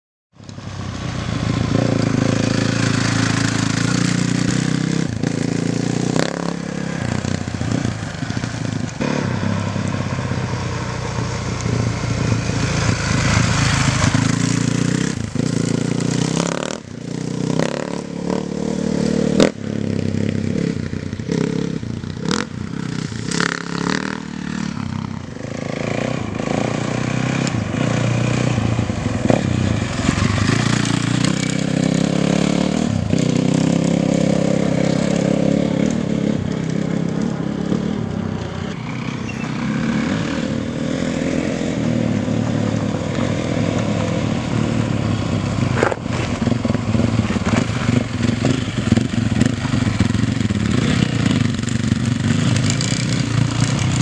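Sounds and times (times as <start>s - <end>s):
dirt bike engine revving: 0.9s - 54.0s.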